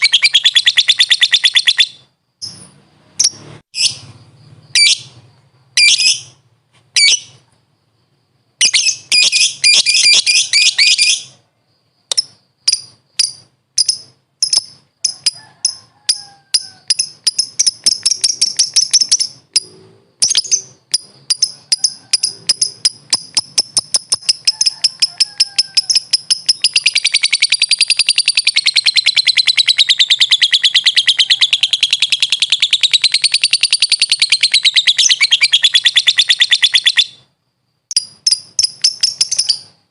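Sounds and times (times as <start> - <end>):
lovebird chirping and trilling: 0.0 - 7.4, 8.6 - 11.4, 12.1 - 37.3, 37.9 - 39.8.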